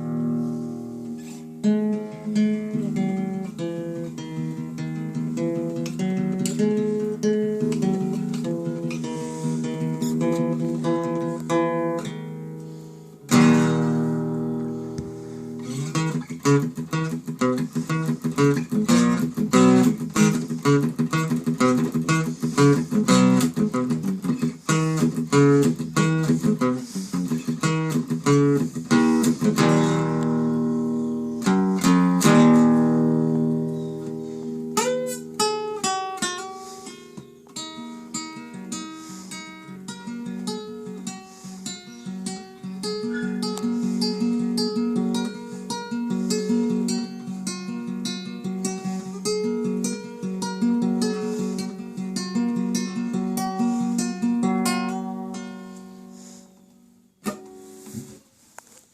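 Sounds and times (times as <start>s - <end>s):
solo acoustic guitar: 0.0s - 58.9s.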